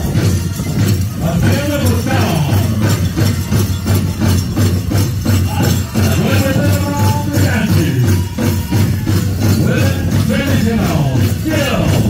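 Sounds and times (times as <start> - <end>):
large drum beating: 0.0 - 12.0.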